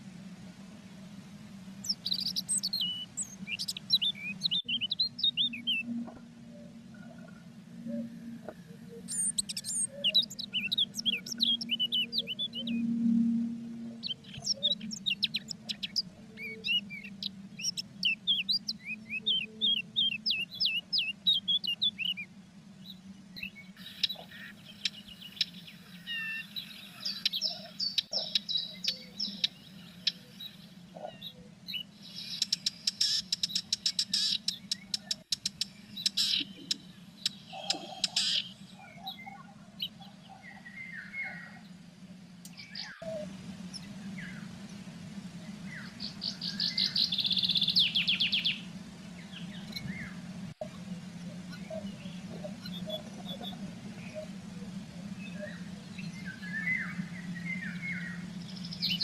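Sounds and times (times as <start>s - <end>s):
low electrical hum: 0.0s - 59.0s
songbirds chirping: 0.0s - 59.0s.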